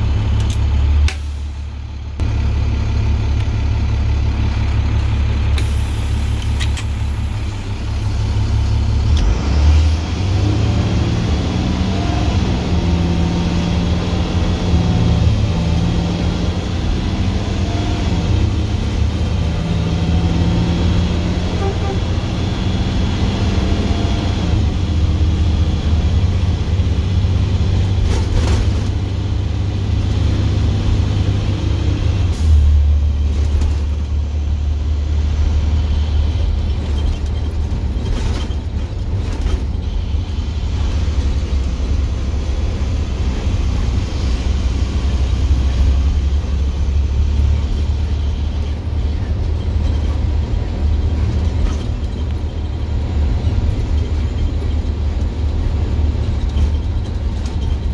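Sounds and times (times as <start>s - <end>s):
diesel bus engine running: 0.0s - 57.9s.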